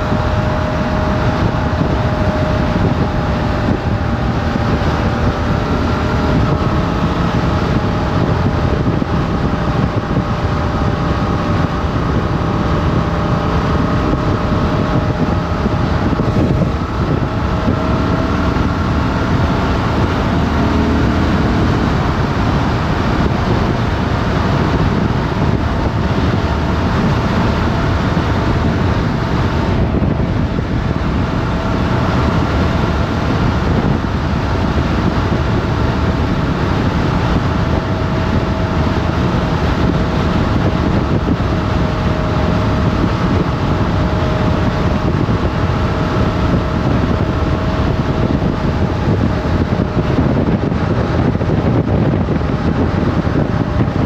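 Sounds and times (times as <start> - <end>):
motorcycle engine running: 0.0 - 54.0
wind buffeting on microphone: 0.0 - 54.0.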